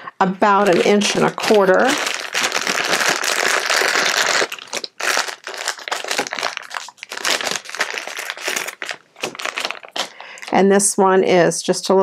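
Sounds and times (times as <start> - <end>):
plastic bag crinkling: 0.4 - 10.7.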